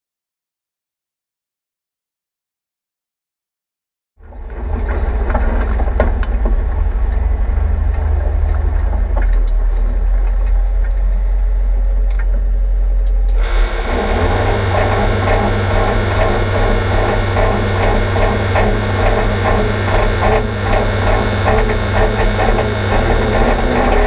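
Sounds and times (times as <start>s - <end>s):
rally car engine running: 4.2s - 24.0s.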